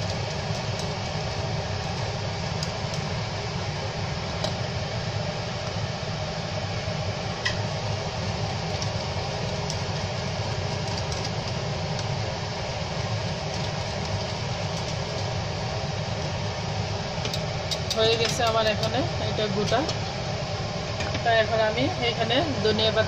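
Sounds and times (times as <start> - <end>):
pot boiling: 0.0 - 23.0.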